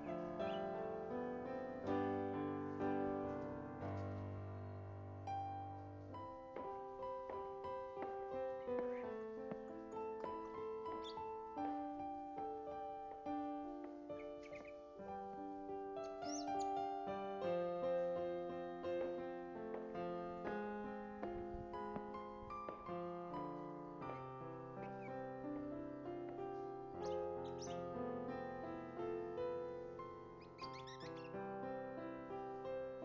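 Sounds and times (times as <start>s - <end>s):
songbird chirping: 0.0s - 4.2s, 5.3s - 31.5s
gentle solo piano: 0.0s - 33.0s.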